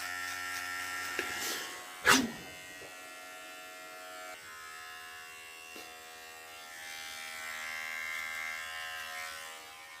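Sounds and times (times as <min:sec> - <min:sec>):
electric shaver buzzing: 0:00.0 - 0:10.0.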